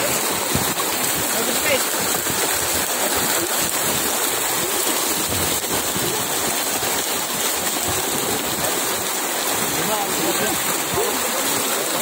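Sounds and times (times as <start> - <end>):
fish splashing in a net: 0.0 - 12.0.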